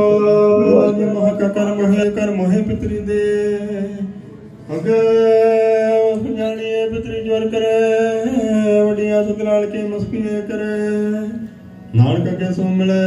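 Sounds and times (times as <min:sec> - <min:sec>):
man singing a hymn: 0:00.0 - 0:13.0.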